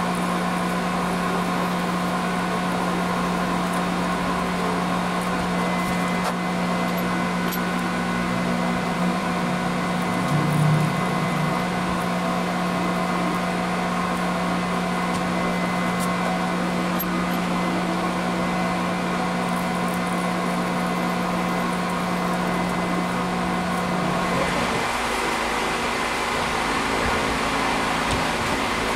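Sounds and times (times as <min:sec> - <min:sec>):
drill spindle humming: 0:00.0 - 0:28.9.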